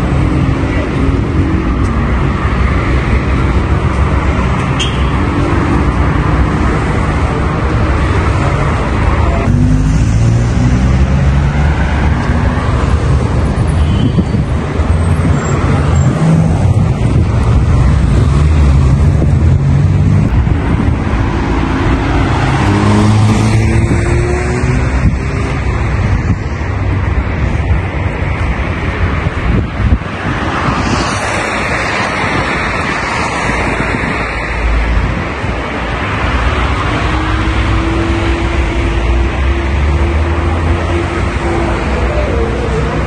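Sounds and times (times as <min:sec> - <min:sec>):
cars driving past: 0:00.0 - 0:43.0.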